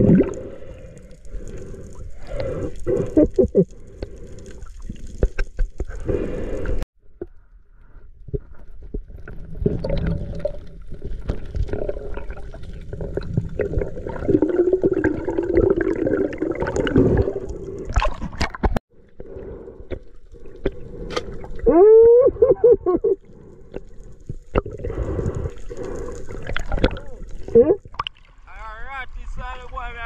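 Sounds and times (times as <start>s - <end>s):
water gurgling and sloshing: 0.0s - 7.2s, 7.8s - 28.5s.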